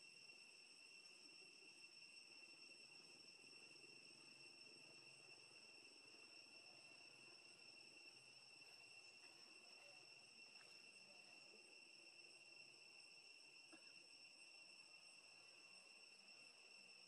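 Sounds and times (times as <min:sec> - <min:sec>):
faint high insect drone: 0:00.0 - 0:17.0.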